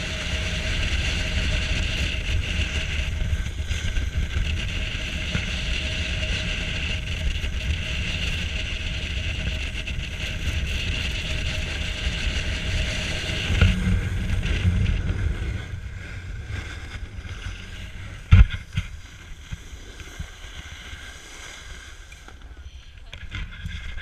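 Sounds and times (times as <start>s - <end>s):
snowboard sliding over snow: 0.0s - 24.0s
wind on microphone: 0.0s - 24.0s.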